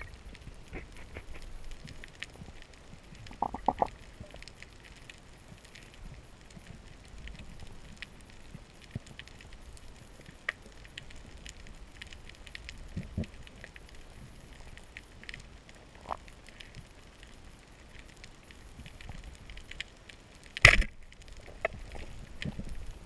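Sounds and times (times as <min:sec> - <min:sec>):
low rumble of water: 0:00.0 - 0:23.0.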